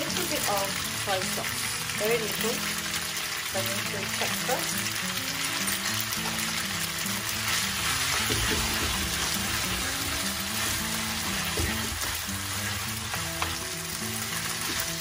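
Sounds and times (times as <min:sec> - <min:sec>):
pasta sizzling in frying pan: 0:00.0 - 0:15.0.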